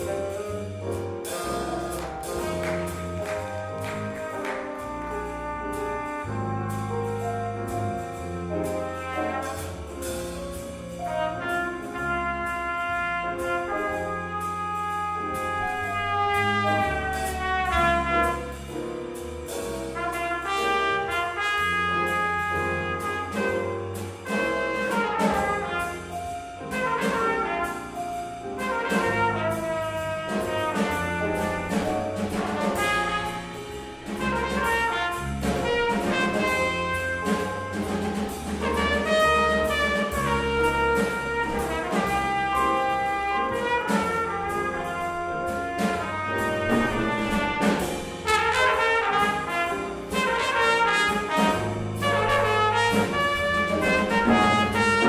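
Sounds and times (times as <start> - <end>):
trumpet: 0.0 - 10.3, 10.9 - 19.0, 19.8 - 55.0
bass guitar: 0.0 - 55.0
drum kit beat: 0.0 - 55.0
piano: 0.0 - 55.0.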